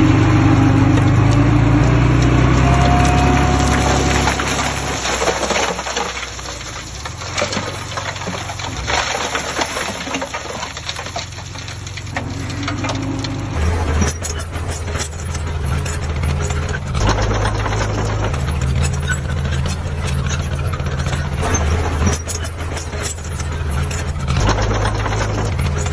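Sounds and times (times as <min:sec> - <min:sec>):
heavy machinery diesel engine: 0:00.0 - 0:25.9
metallic rattling and clatter: 0:02.7 - 0:25.9.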